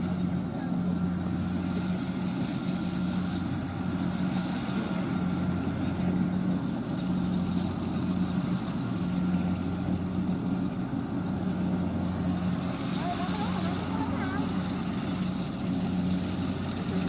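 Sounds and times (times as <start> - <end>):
combine harvester engine droning: 0.0 - 17.0.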